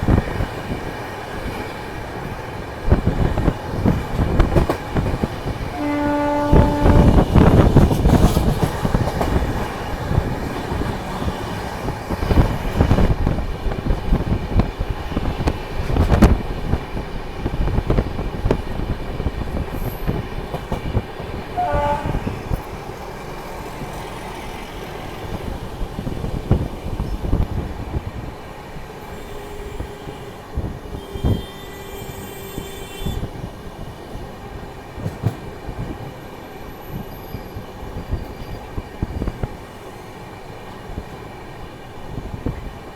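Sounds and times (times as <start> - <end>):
train wheels clattering over rails: 0.0 - 28.3, 29.6 - 39.7.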